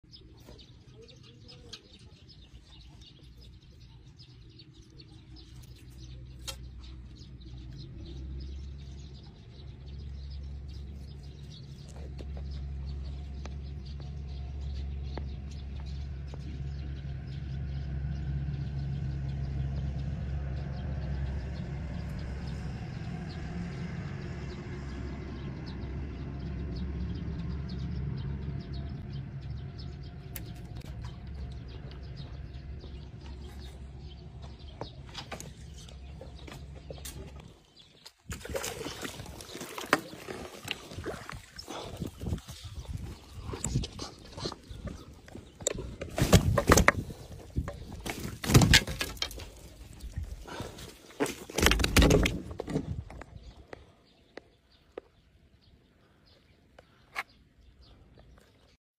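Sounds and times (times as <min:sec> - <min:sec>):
birds chirping: 0:00.0 - 0:58.8
low engine drone: 0:02.5 - 0:54.0.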